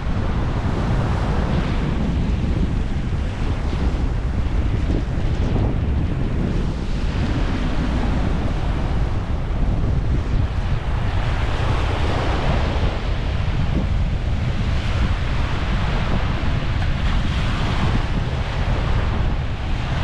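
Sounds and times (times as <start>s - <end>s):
sea waves washing ashore: 0.0s - 20.0s
wind rumbling on microphone: 0.0s - 20.0s.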